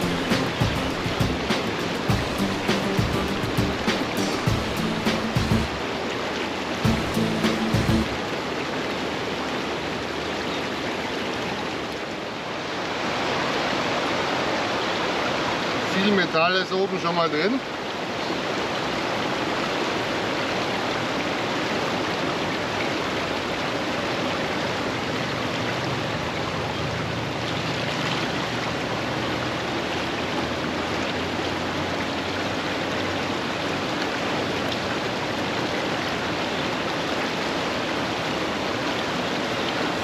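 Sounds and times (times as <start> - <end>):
fast-flowing stream: 0.0 - 40.0.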